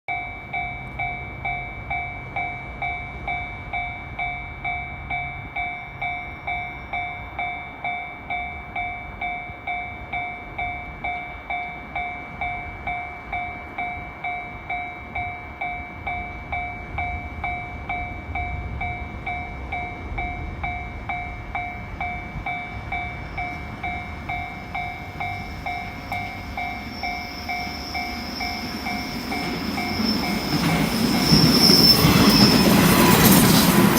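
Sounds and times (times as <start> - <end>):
train rumbling: 0.1 - 33.9.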